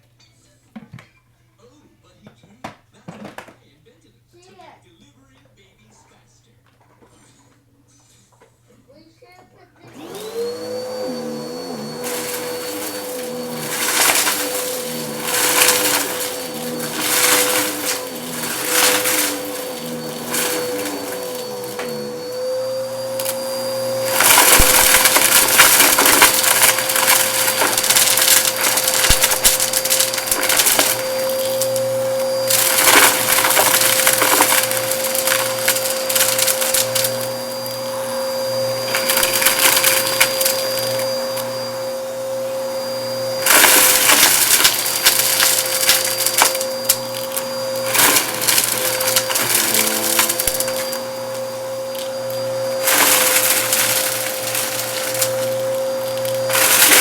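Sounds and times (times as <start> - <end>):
vacuum cleaner motor whine: 9.8 - 57.0
debris crunching through vacuum: 10.1 - 41.8, 42.7 - 57.0.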